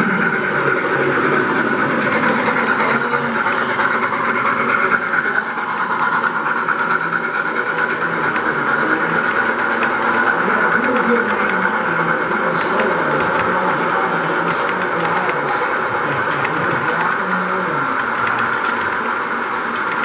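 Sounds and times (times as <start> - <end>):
people chattering: 0.0 - 18.6
model train wheels on rails: 0.0 - 20.0.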